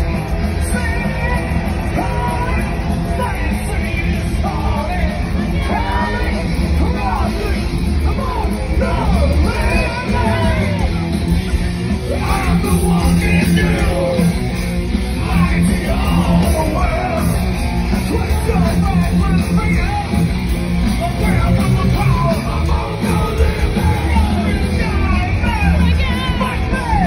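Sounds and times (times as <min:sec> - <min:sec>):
crowd yelling: 0:00.0 - 0:27.0
live heavy rock music: 0:00.0 - 0:27.0.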